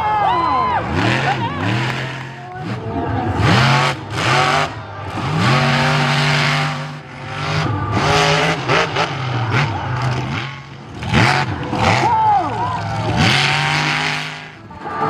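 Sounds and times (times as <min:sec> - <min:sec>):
truck engine revving: 0:00.7 - 0:15.0.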